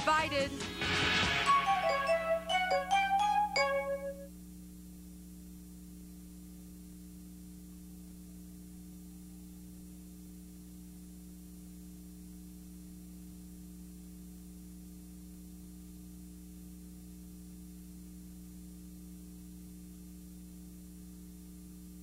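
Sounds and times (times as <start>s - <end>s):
low electrical hum: 1.8s - 22.0s.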